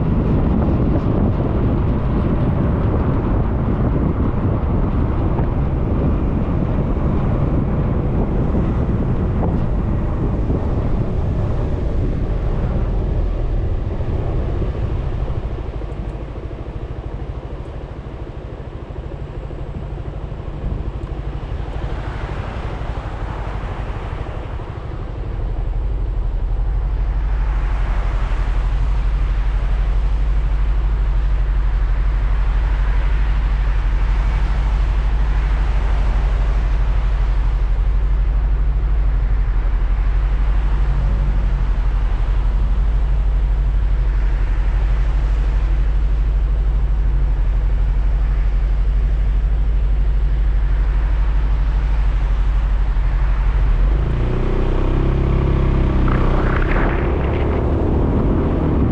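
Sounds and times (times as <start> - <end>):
road and wind noise: 0.0 - 58.9.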